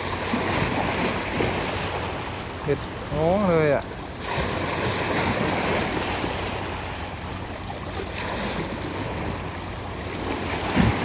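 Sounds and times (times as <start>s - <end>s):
sea waves rushing: 0.0s - 11.0s.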